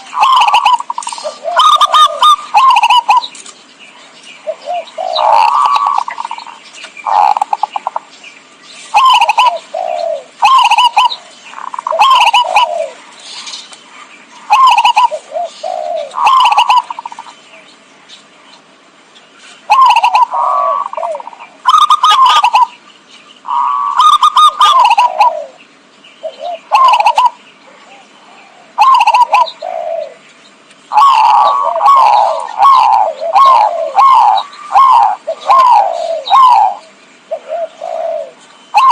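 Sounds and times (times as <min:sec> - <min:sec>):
dove cooing: 0:00.0 - 0:03.5, 0:04.4 - 0:08.1, 0:08.9 - 0:13.6, 0:14.4 - 0:17.4, 0:19.6 - 0:22.8, 0:23.4 - 0:30.3, 0:30.9 - 0:38.9.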